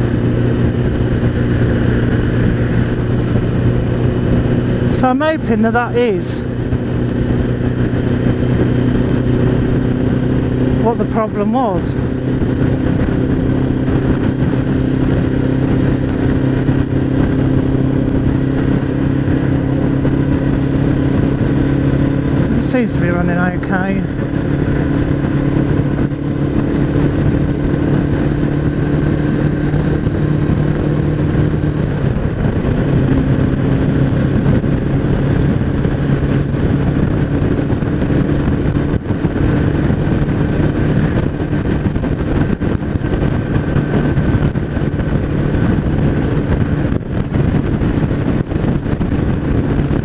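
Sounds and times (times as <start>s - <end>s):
motorcycle engine cruising: 0.0s - 50.0s.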